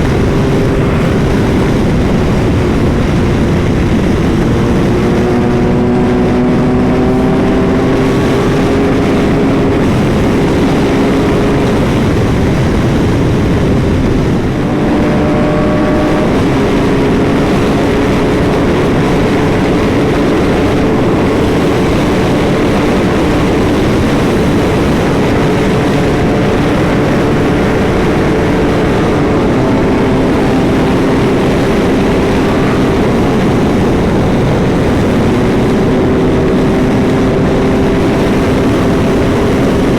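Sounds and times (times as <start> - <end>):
heavy wind rush: 0.0 - 39.9
motorcycle engine pulling hard: 0.0 - 39.9.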